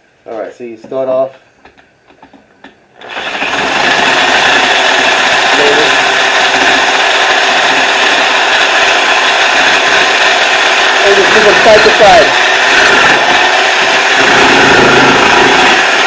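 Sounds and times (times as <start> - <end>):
heavy drill boring metal: 3.0 - 16.0.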